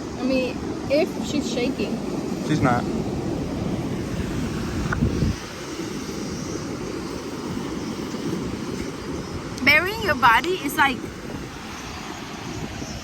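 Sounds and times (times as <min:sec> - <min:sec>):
beach surf: 0:00.0 - 0:13.0
wind rumbling on microphone: 0:00.0 - 0:13.0.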